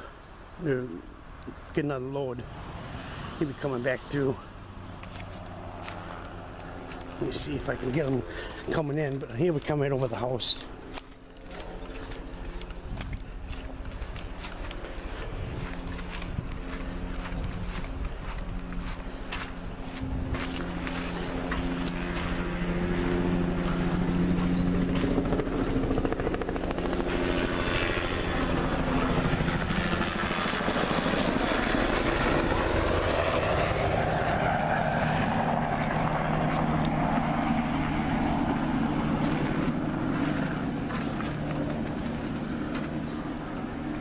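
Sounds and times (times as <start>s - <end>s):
helicopter flying low: 0.0s - 44.0s.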